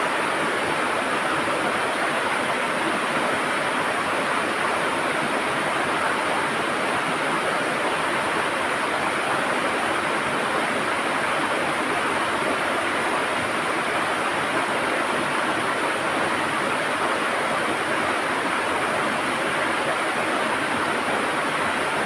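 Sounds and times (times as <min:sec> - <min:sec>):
river water rushing over stones: 0:00.0 - 0:22.0.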